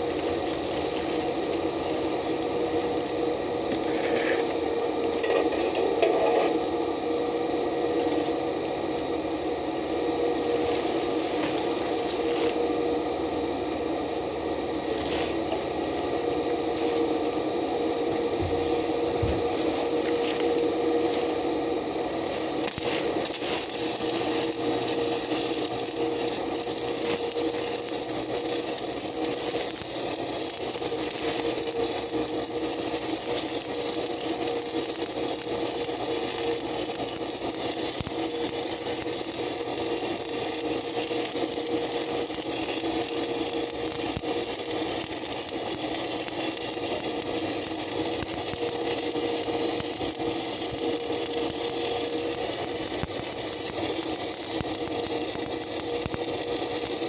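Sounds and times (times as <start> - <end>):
constant hum: 0.0 - 56.9
welding arc crackling hiss: 0.0 - 57.0.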